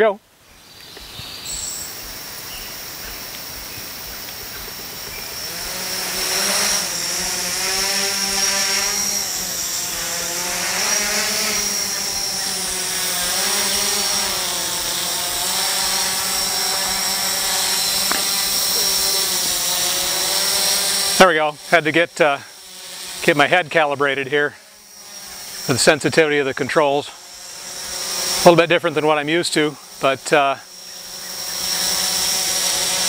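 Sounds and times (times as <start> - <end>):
quadcopter propellers whining: 0.0 - 33.0.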